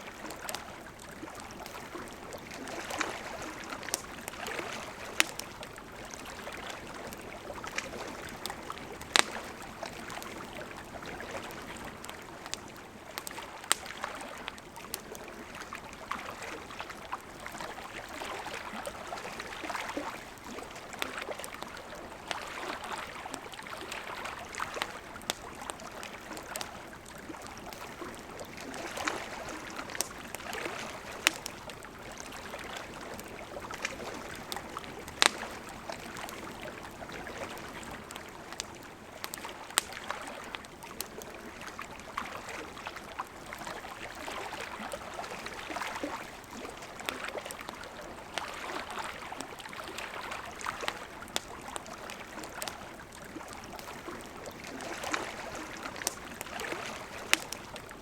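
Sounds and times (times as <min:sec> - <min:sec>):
campfire crackling and popping: 0:00.0 - 0:58.0
river water flowing: 0:00.0 - 0:58.0.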